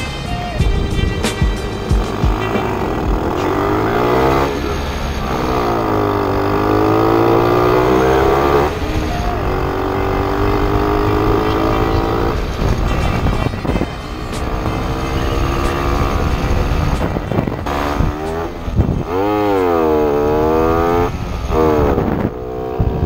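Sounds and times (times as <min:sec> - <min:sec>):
two-stroke moped engine accelerating: 0:00.0 - 0:23.0.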